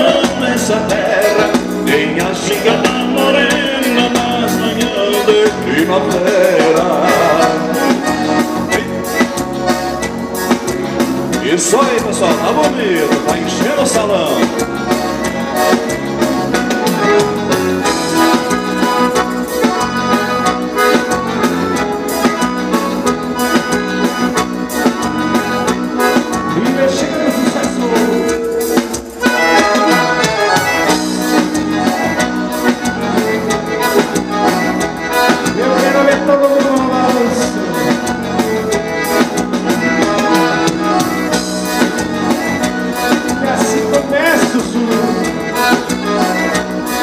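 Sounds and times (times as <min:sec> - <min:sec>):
accordion dance music: 0:00.0 - 0:47.0.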